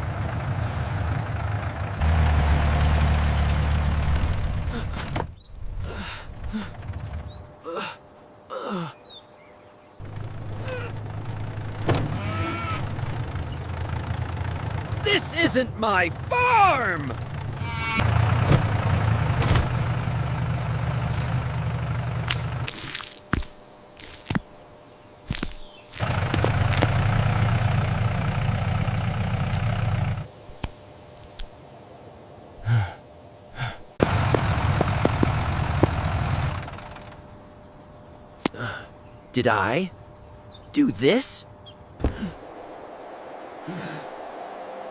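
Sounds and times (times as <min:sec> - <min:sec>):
tractor engine rumbling: 0:00.0 - 0:08.8, 0:10.0 - 0:22.8, 0:26.0 - 0:30.4, 0:33.6 - 0:44.9.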